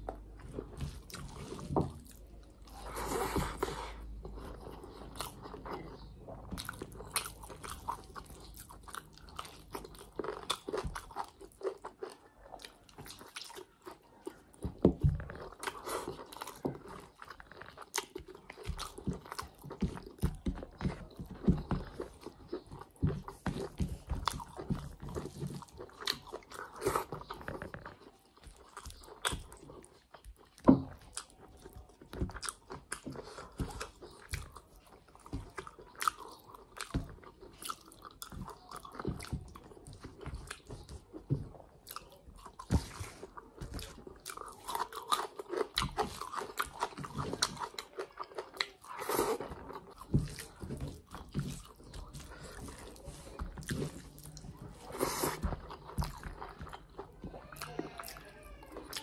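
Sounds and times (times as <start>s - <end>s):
wet chewing with crunches: 0.0s - 59.0s.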